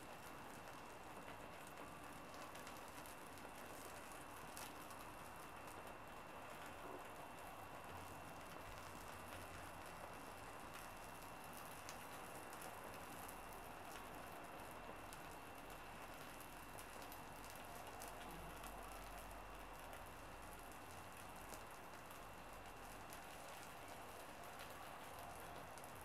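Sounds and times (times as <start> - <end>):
soft fire hiss: 0.0 - 26.0
wood fire crackling: 0.0 - 26.0.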